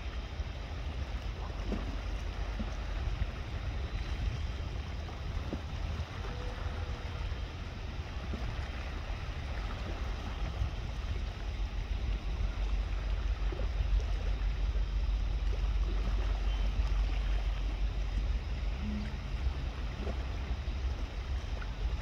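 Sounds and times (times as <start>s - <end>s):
waves washing: 0.0s - 22.0s
wind rumble: 0.0s - 22.0s.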